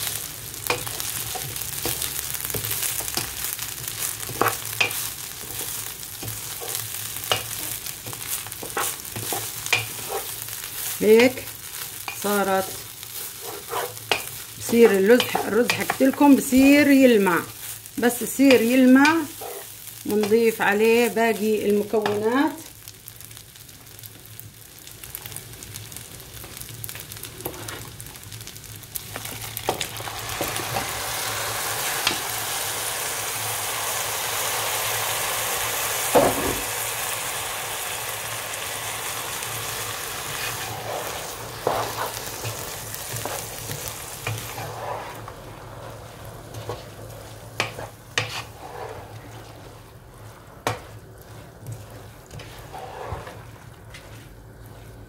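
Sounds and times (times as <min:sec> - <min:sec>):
rice sizzling in a hot pan: 0:00.0 - 0:55.0.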